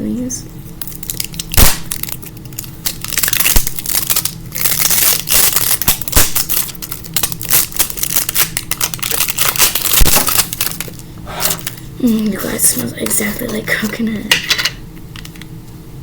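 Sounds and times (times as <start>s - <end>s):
plastic packaging crinkling and tearing: 0.8s - 13.9s.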